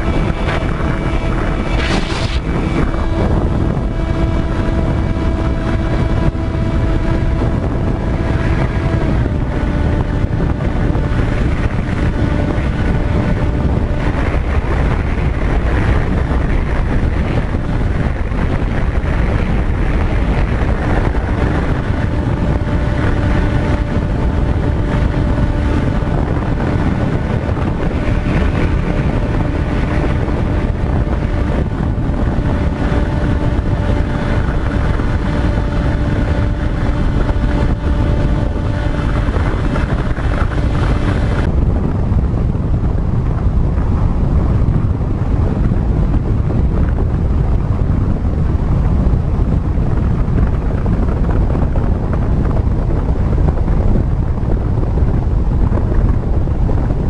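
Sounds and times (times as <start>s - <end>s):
motor hum: 0.0s - 57.0s
wind rumble on microphone: 0.0s - 57.0s.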